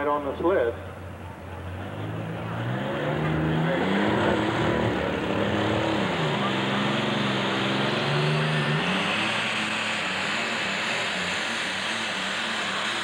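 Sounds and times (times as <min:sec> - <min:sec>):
tractor engine under full load: 0:00.0 - 0:13.0.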